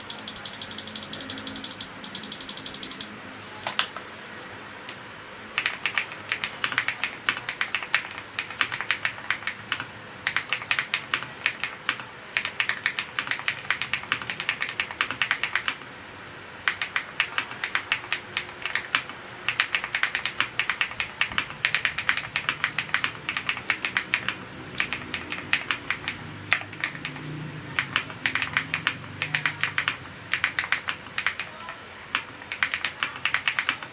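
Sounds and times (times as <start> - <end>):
mechanical keyboard typing: 0.0 - 3.1, 5.6 - 15.8, 16.6 - 33.9
rapid even ticking: 0.0 - 3.1, 5.6 - 15.8, 16.7 - 31.5, 32.1 - 33.9.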